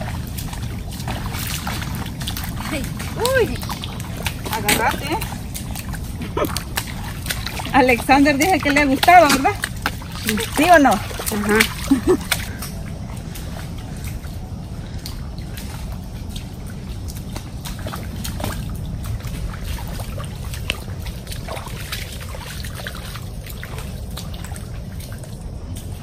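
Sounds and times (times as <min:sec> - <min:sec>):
footsteps squelching through mud and water: 0:00.0 - 0:26.0
low rumble: 0:00.0 - 0:26.0
small clicks and splashes: 0:00.0 - 0:26.0.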